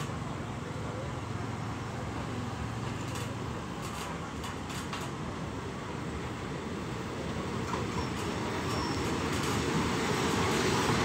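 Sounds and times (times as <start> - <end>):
diesel train engines rumbling: 0.0 - 11.0.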